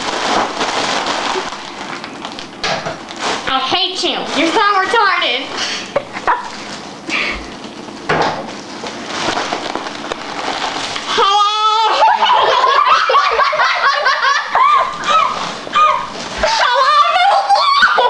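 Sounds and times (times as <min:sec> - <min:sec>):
foil balloon crinkling: 0:00.0 - 0:18.0.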